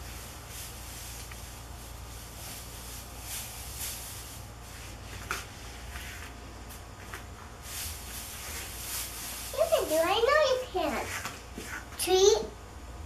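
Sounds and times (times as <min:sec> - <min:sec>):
pom-poms rustling: 0:00.0 - 0:12.1
low steady hum: 0:00.0 - 0:13.0.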